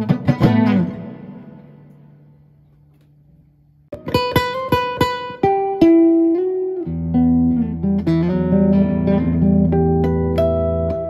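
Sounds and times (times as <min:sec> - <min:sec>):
electric guitar notes and chords: 0:00.0 - 0:02.3, 0:03.9 - 0:11.0.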